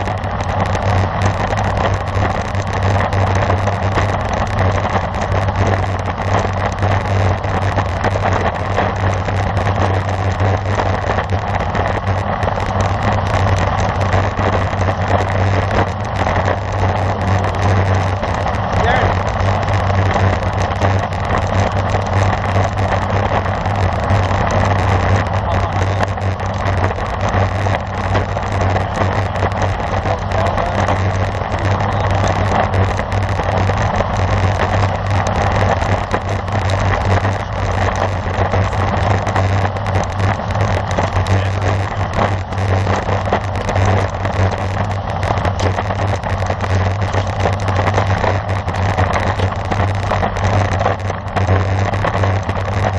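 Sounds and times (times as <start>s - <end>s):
low hum: 0.0s - 52.9s
wind and road noise: 0.0s - 52.9s.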